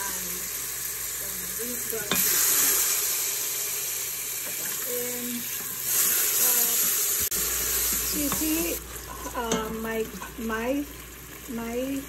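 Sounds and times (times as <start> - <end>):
vegetables frying in hot oil: 0.0 - 12.0.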